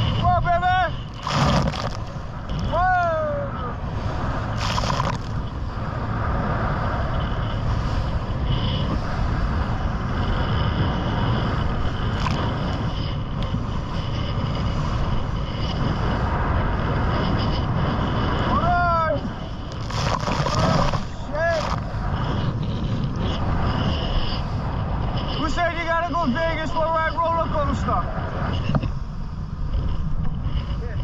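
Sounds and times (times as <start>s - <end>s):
motorboat engine drone: 0.0s - 31.0s
wind: 0.0s - 31.0s.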